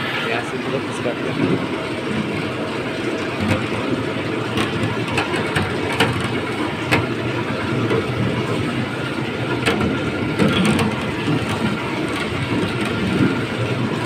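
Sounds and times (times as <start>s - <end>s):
grading machine rumbling: 0.0s - 14.0s.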